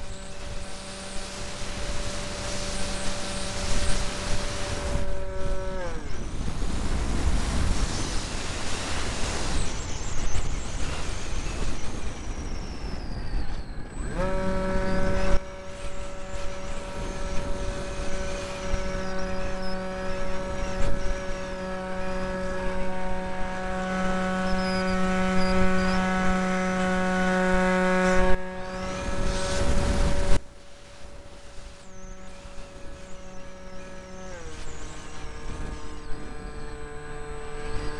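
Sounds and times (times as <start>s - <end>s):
electric motor propeller whine: 0.0s - 37.9s
wind rushing over camera: 0.0s - 37.9s.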